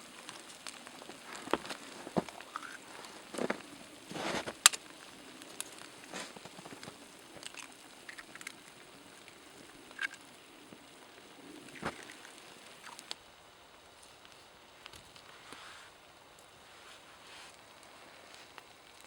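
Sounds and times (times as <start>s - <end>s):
campfire crackling and popping: 0.0s - 19.0s
faint steady hiss: 0.0s - 19.0s.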